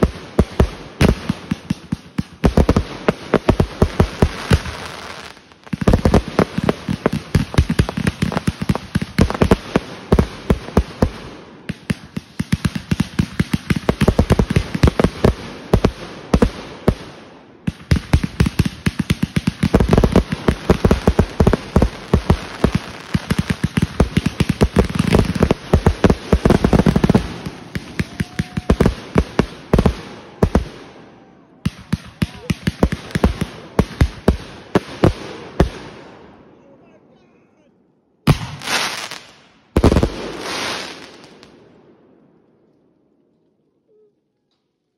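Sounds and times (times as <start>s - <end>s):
fireworks bangs: 0.0s - 36.3s, 38.2s - 41.8s.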